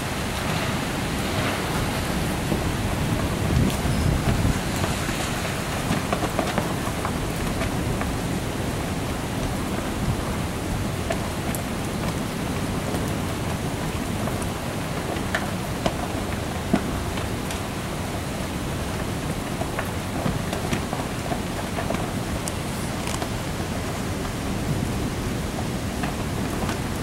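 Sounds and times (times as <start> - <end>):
heavy rain falling: 0.0 - 27.0
sharp raindrop taps: 1.2 - 24.4, 25.5 - 27.0.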